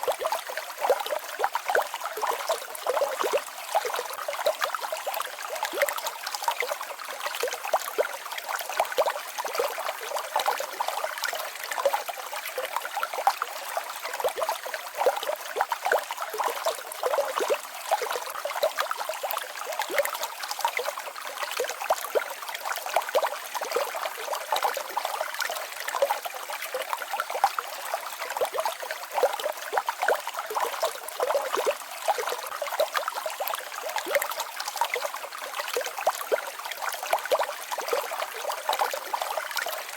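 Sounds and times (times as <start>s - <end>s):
stream babbling over small waterfall: 0.0s - 39.9s.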